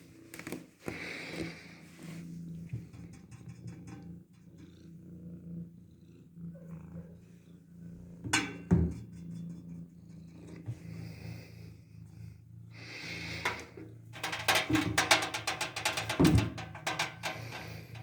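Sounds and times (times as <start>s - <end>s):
kitten purring: 1.0s - 8.3s, 9.0s - 18.0s.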